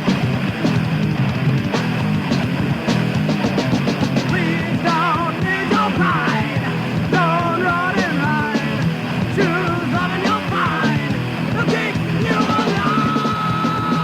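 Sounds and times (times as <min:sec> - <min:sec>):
distorted guitars: 0:00.0 - 0:14.0
thrash metal music: 0:00.0 - 0:14.0.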